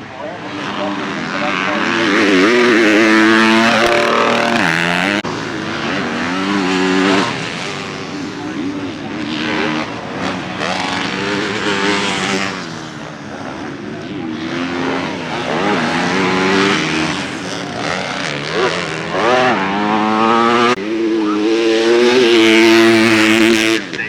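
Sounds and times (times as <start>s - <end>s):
motocross bike engines revving: 0.0s - 24.0s.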